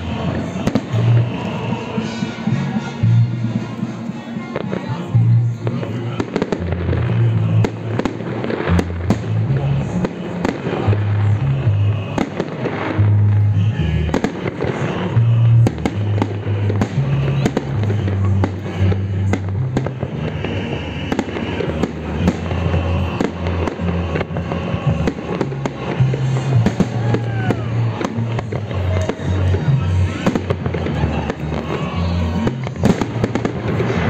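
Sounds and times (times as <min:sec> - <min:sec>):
fireworks bangs and crackles: 0:00.0 - 0:34.0
music with low bass: 0:00.0 - 0:34.0.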